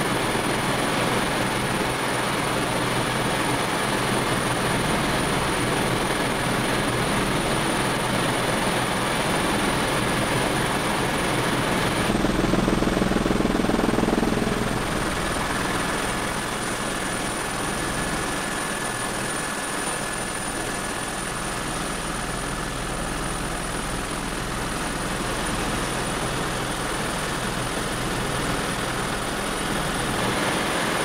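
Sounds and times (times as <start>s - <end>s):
helicopter rotor and engine: 0.0s - 31.0s.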